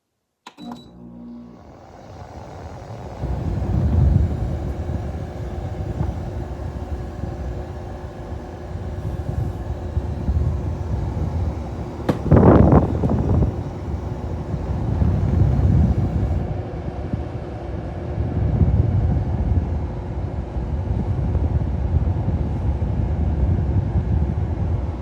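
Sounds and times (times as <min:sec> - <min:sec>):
fan and air conditioner rumble: 0:00.7 - 0:25.0.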